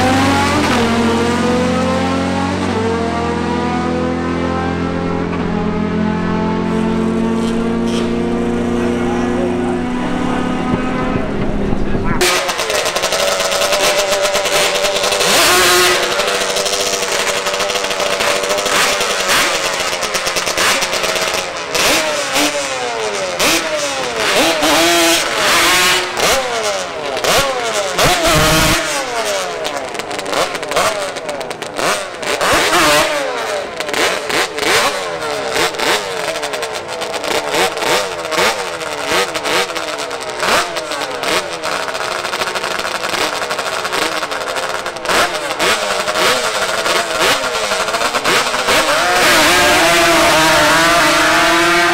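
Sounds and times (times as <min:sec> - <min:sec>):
engines revving: 0:00.0 - 0:51.9.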